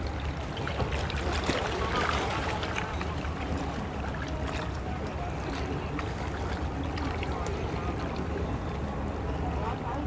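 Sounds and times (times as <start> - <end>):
outboard boat engines rumbling: 0.0 - 10.0
faint voices: 1.2 - 10.0.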